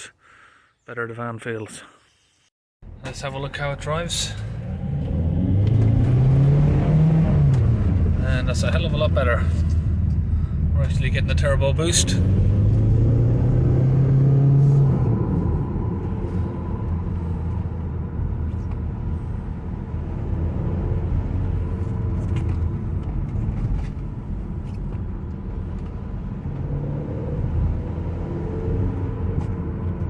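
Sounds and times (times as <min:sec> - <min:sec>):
diesel engine rumble: 0:02.8 - 0:30.0
road noise while driving: 0:02.8 - 0:30.0.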